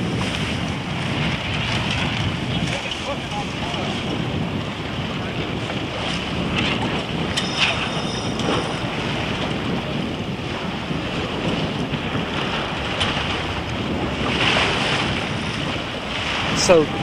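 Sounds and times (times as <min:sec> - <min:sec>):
small waves washing: 0:00.0 - 0:17.0
wind buffeting microphone: 0:00.0 - 0:17.0.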